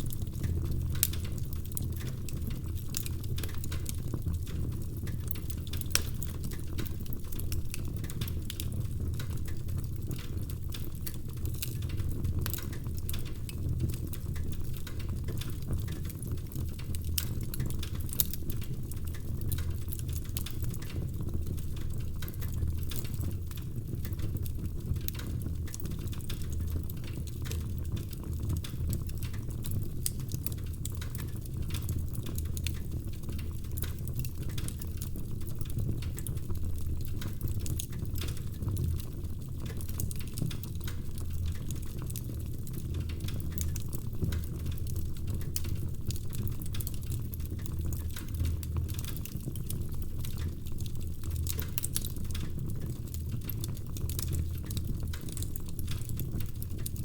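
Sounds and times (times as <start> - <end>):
log fire crackling and popping: 0.0 - 57.0.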